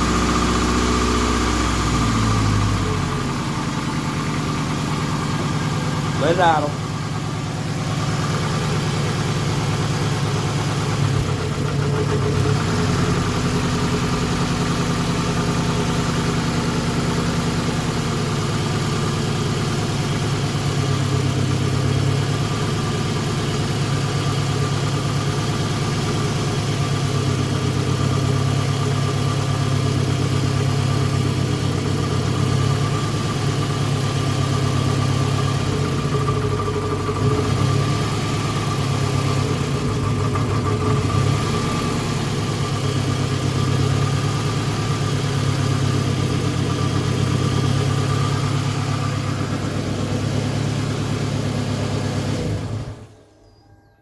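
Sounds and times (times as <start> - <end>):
car engine idling with misfire: 0.0 - 53.2.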